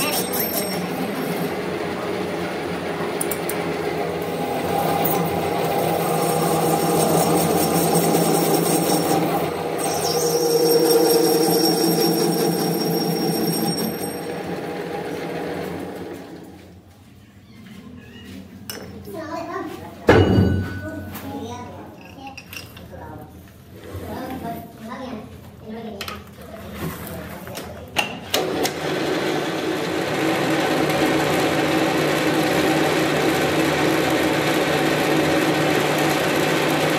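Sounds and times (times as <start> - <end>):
machinery mechanical hum: 0.0 - 30.2.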